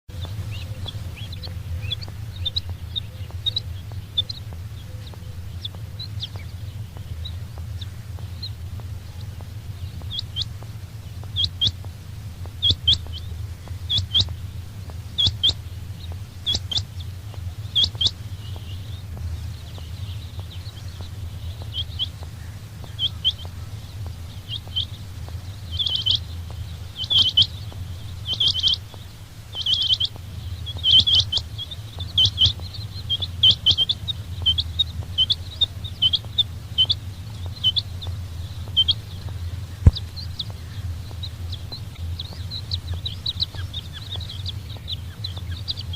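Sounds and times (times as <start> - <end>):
steady low hum: 0.0 - 45.9
quail calling: 0.1 - 45.9.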